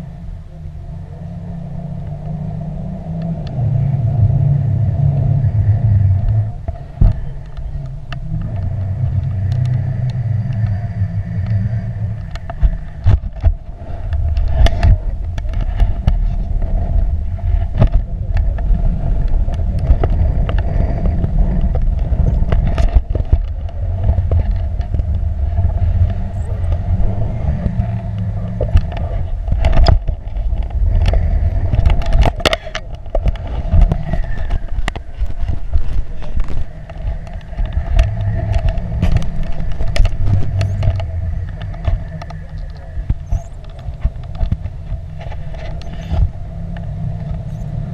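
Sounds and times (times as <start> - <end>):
steady mid-pitched hum: 0.0 - 47.9
wind buffeting microphone: 0.0 - 47.9.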